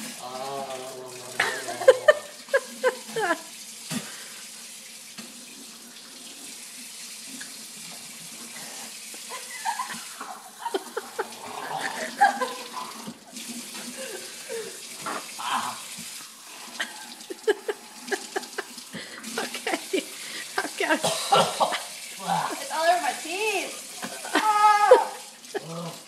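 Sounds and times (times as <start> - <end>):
faucet running into metal sink: 0.0 - 26.0.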